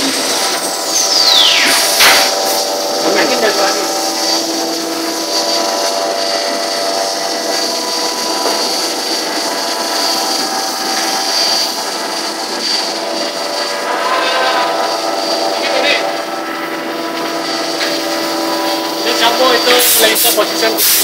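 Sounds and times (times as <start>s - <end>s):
router whining over mechanical hum: 0.0s - 21.0s.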